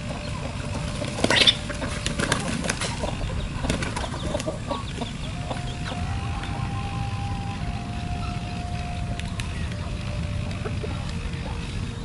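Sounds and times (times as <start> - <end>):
birds flapping wings: 0.0 - 12.0
steady low noise: 0.0 - 12.0.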